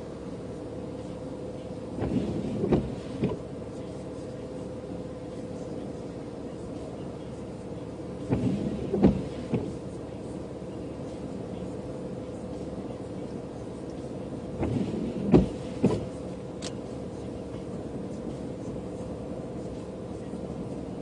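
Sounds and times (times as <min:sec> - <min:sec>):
car cabin hum: 0:00.0 - 0:21.0.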